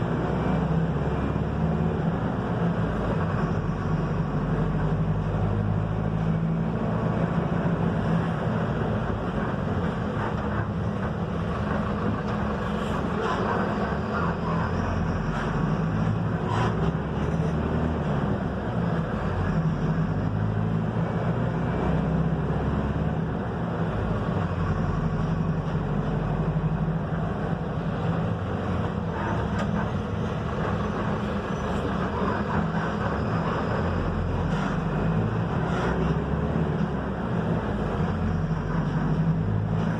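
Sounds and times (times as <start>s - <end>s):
bus diesel engine running: 0.0s - 39.9s
road noise: 0.0s - 39.9s.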